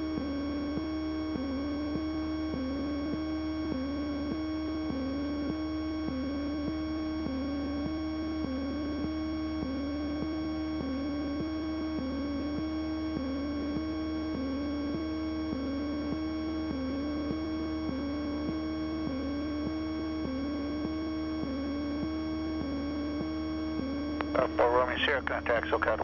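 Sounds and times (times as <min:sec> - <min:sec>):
electrical hum and whine: 0:00.0 - 0:26.0.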